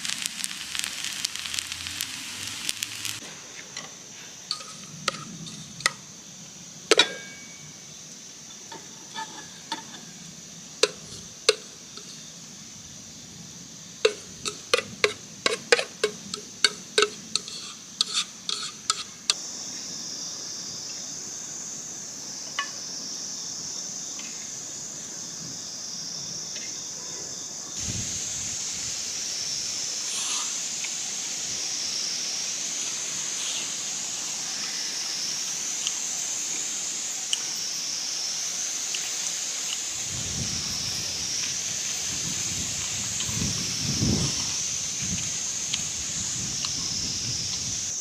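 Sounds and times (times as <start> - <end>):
steady high hiss: 0.0 - 48.0.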